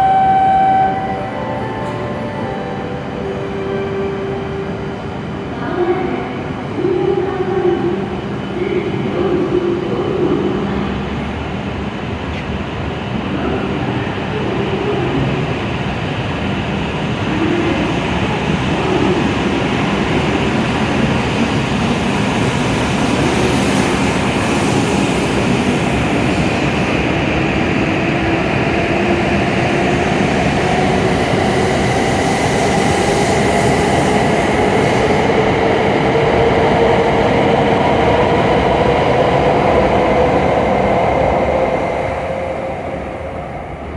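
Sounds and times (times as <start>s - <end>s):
train running noise: 0.0s - 43.9s.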